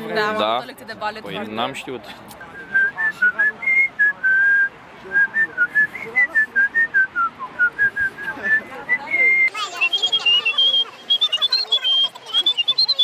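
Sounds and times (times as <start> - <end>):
person whistling a tune: 2.6 - 13.0.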